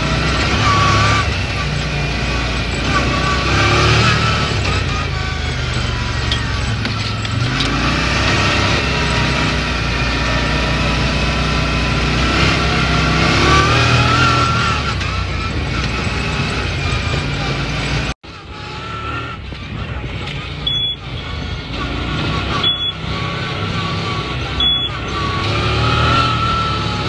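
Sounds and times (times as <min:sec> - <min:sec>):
buggy engine running: 0:00.0 - 0:27.0.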